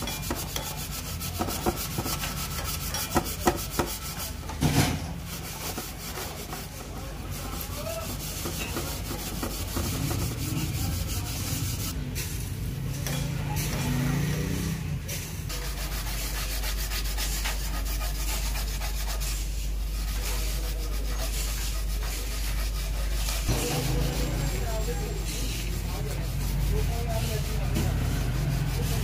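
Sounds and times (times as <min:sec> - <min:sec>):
scrubbing metal: 0:00.0 - 0:13.9, 0:15.2 - 0:29.0.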